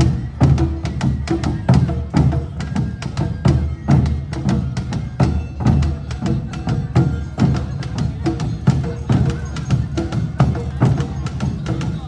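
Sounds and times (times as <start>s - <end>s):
taiko drums beating: 0.0s - 12.0s.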